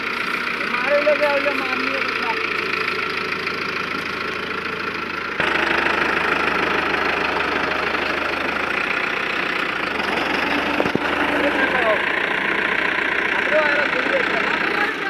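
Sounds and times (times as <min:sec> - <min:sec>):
tractor engine knocking: 0:00.0 - 0:15.0.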